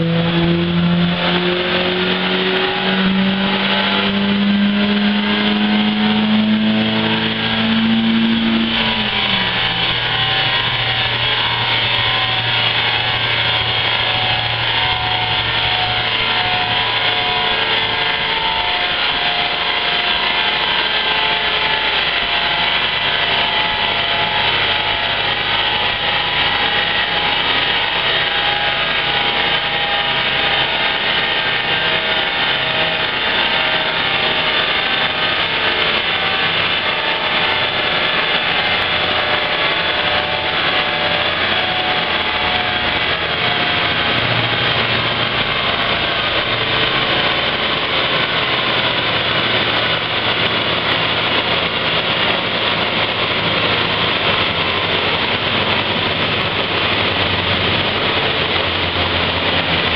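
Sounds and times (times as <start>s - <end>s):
car engine running under load: 0.0s - 59.9s
wheels spinning on rollers: 0.0s - 59.9s.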